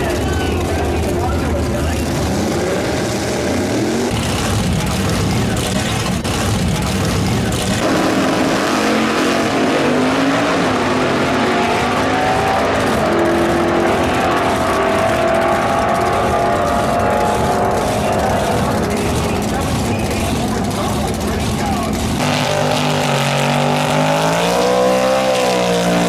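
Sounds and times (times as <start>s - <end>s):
drag racing cars at full throttle: 0.0s - 26.0s.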